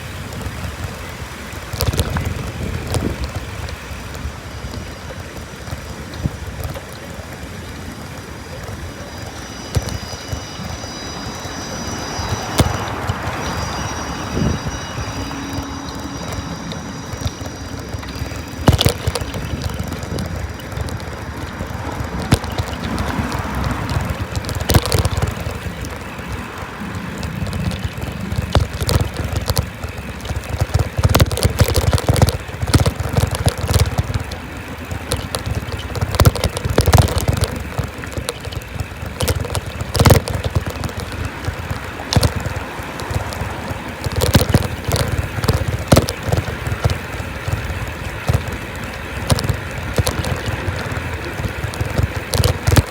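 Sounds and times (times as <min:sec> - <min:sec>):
bike knocks and rattles: 0:00.0 - 0:52.9
wind and rolling rumble: 0:00.0 - 0:52.9.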